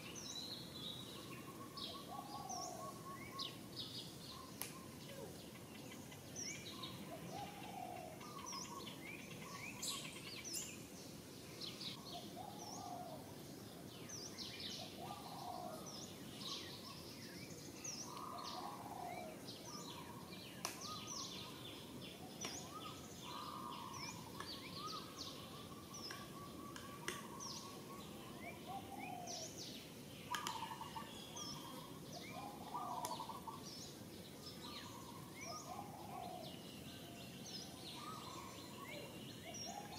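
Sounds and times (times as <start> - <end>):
swooping bird calls: 0.0 - 13.4, 14.0 - 39.9
birds chirping: 0.0 - 39.9
low background hiss: 0.0 - 39.9.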